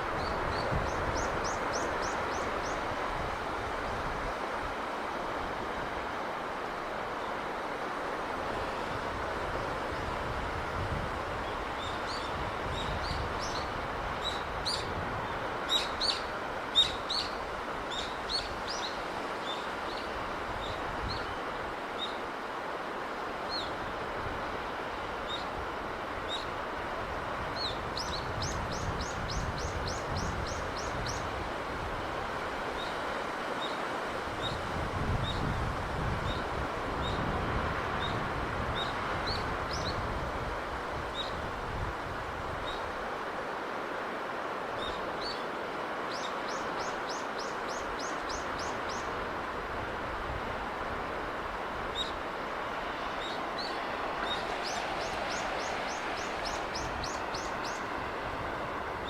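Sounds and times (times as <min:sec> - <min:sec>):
sea breeze: 0:00.0 - 0:59.0.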